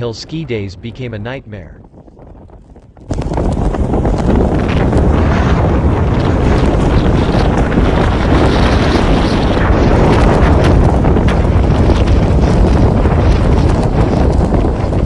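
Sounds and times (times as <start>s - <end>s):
strong wind blasting microphone: 0.0s - 15.0s.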